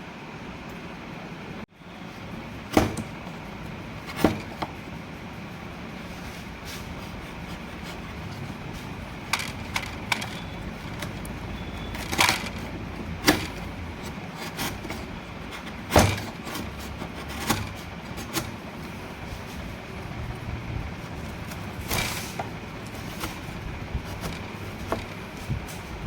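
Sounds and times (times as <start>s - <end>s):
low background rumble: 0.6s - 26.0s.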